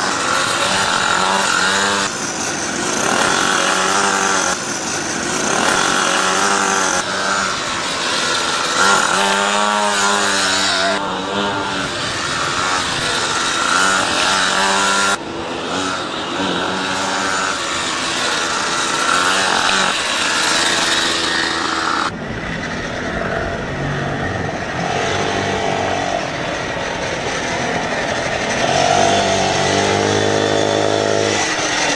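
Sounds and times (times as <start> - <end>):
small racing engines revving: 0.0 - 31.9.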